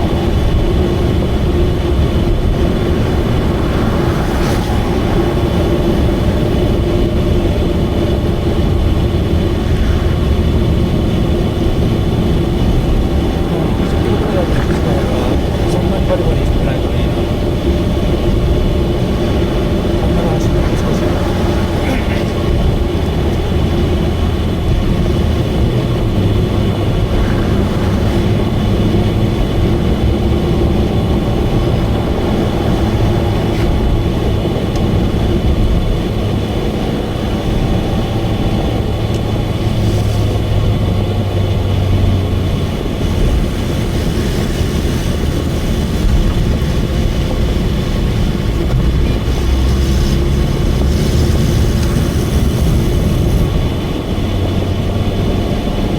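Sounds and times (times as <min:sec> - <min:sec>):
car engine drone: 0:00.0 - 0:55.9
tyre and road rumble: 0:00.0 - 0:55.9.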